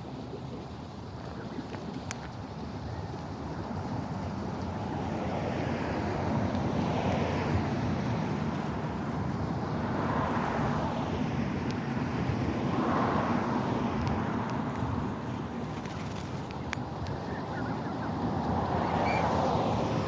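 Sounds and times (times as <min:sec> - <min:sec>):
wind buffeting microphone: 0:00.3 - 0:20.0.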